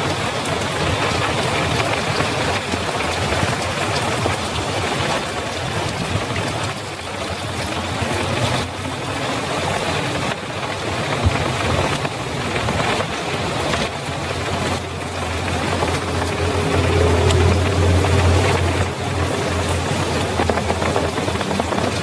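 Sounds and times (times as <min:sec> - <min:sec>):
heavy rain on a road: 0:00.0 - 0:22.0
running water: 0:00.0 - 0:22.0
low engine rumble: 0:00.1 - 0:22.0.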